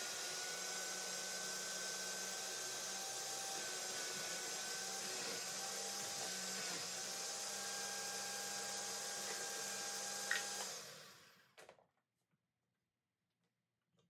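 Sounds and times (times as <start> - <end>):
food processor running: 0.0 - 11.5.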